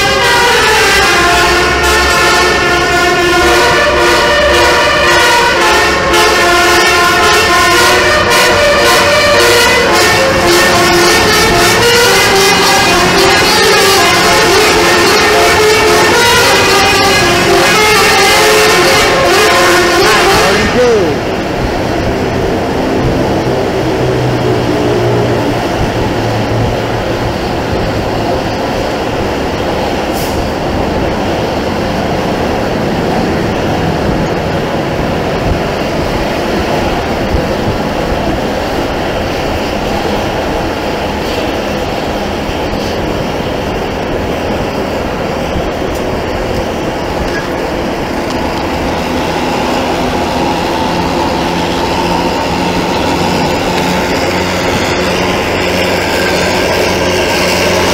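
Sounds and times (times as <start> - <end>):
road traffic noise: 0.0 - 57.9.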